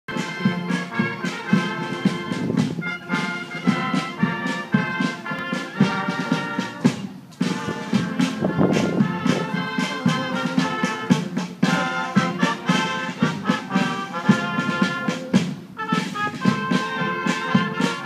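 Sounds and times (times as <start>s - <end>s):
brass band playing a march: 0.1s - 18.0s
drum beat: 0.1s - 18.0s.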